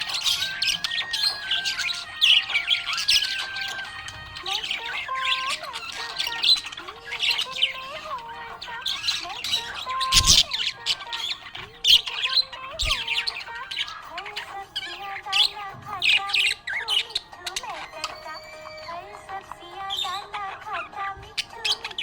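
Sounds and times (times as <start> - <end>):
background music: 0.0 - 22.0
budgerigar chirping and squawking: 0.0 - 22.0.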